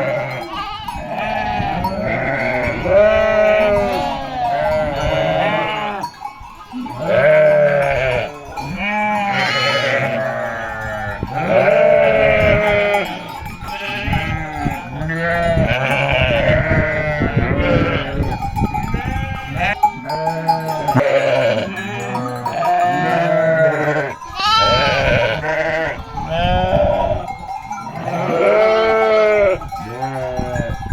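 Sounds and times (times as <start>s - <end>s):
sheep bleating: 0.0s - 6.1s, 6.8s - 18.3s, 19.1s - 27.3s, 27.9s - 30.8s.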